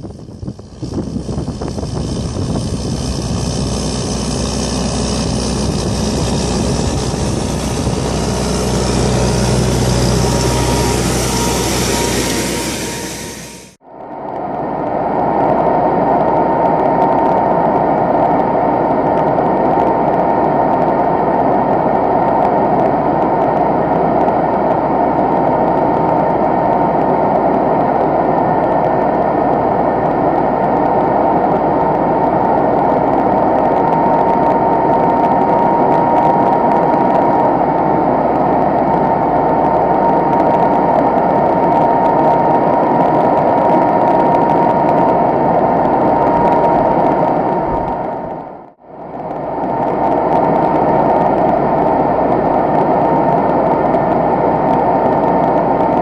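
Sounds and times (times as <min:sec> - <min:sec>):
high fan whine: 0:00.0 - 0:56.0.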